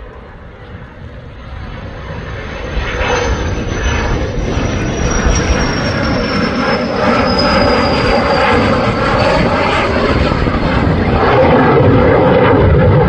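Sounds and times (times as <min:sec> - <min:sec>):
jet engine noise: 0:00.0 - 0:13.0
high whine falling in pitch: 0:02.5 - 0:13.0.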